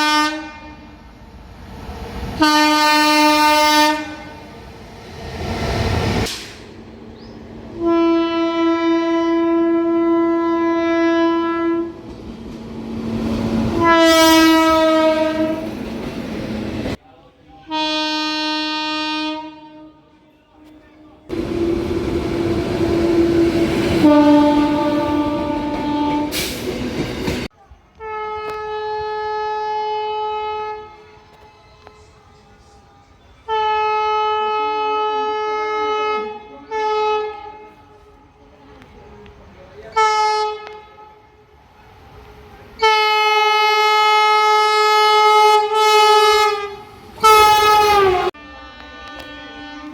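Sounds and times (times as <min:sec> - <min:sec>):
train horn blasts: 0:00.0 - 0:01.0, 0:02.4 - 0:04.5, 0:07.8 - 0:12.1, 0:13.2 - 0:16.1, 0:17.6 - 0:38.4, 0:39.9 - 0:41.6, 0:42.8 - 0:49.9
passing train rush: 0:00.0 - 0:17.7, 0:20.2 - 0:49.9.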